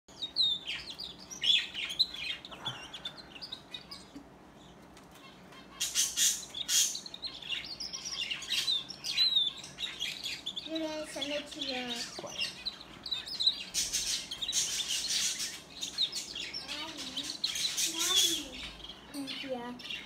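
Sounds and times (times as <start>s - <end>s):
canary singing: 0.1s - 20.0s.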